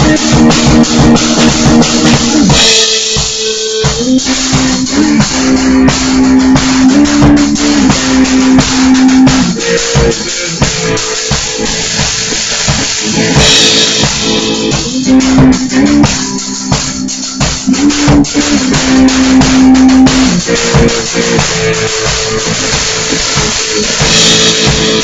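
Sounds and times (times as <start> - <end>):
drum kit playing: 0.0 - 25.0
electric guitar riff: 0.0 - 25.0.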